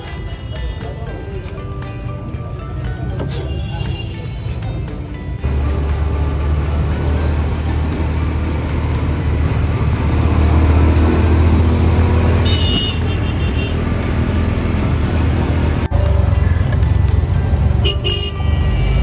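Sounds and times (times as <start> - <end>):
road and wind noise: 0.0 - 19.0
auto-rickshaw engine drone: 2.0 - 19.0.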